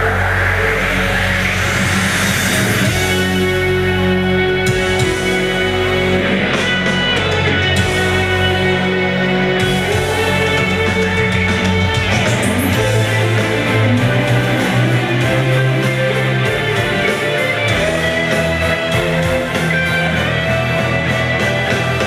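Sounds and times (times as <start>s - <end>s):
amplified instrumental music with beat: 0.0s - 22.0s.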